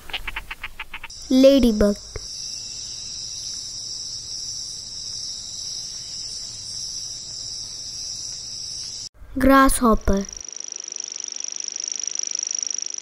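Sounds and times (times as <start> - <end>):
high-pitched insect trill: 0.9 - 9.1, 10.2 - 13.0.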